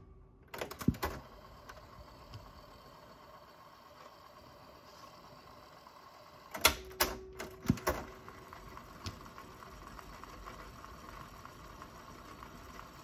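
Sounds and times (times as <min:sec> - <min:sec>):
cassette mechanism whirring: 0:00.0 - 0:13.0.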